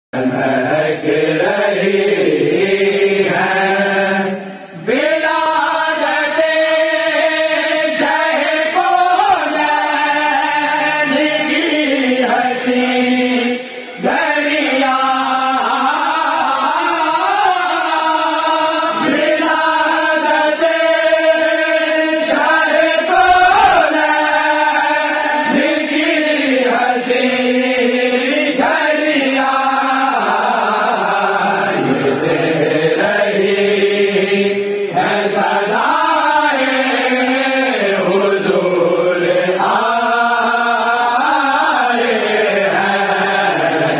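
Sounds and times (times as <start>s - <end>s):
men singing unaccompanied chant: 0.2s - 43.9s.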